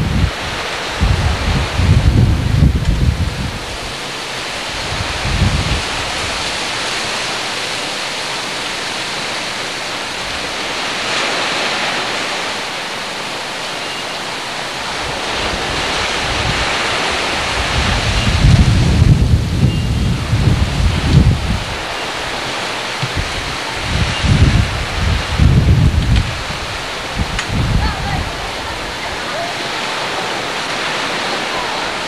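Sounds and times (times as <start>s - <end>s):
wind blowing across microphone: 0.0s - 32.0s.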